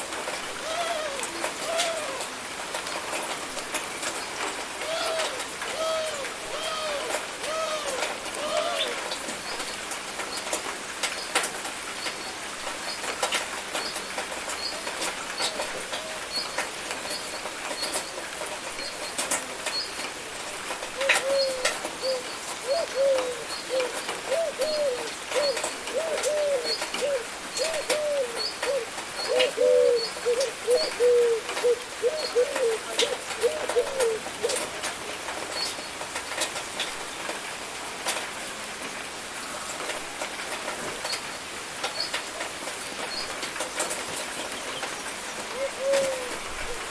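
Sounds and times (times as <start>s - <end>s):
raindrops ticking on a surface: 0.0s - 46.9s
steady rain falling: 0.0s - 46.9s.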